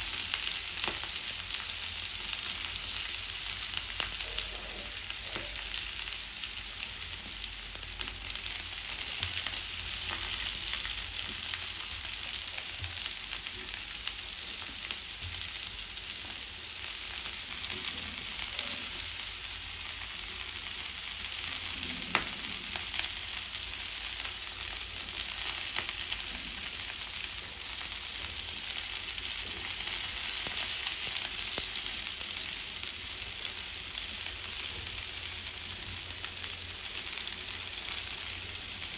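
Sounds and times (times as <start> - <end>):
vegetables sizzling in frying pan: 0.0 - 38.9.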